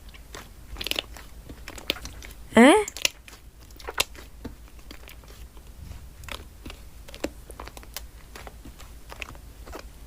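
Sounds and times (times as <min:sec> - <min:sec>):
slime clicking and crackling: 0:00.0 - 0:05.4, 0:06.2 - 0:10.0.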